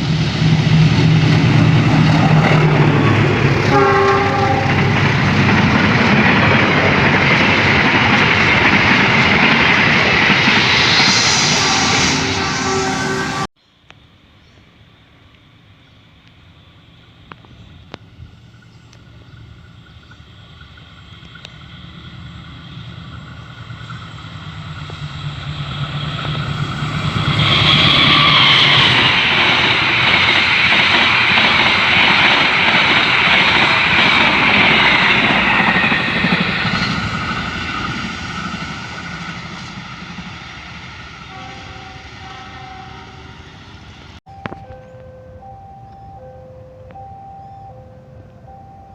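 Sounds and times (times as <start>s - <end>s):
train wheels on rails: 0.0s - 13.5s, 16.3s - 45.0s.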